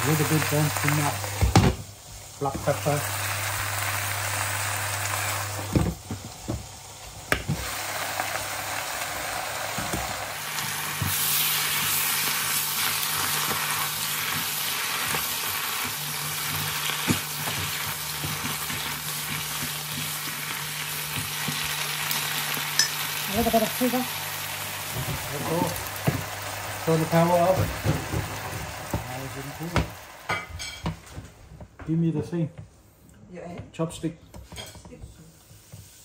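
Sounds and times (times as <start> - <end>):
spinach sizzling in a pan: 0.0 - 31.3, 35.3 - 36.0.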